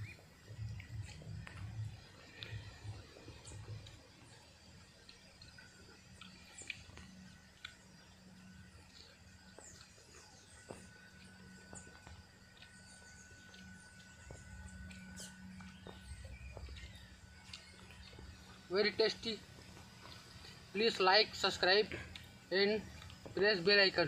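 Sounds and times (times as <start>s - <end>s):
thin high steady tone: 0.0s - 24.0s.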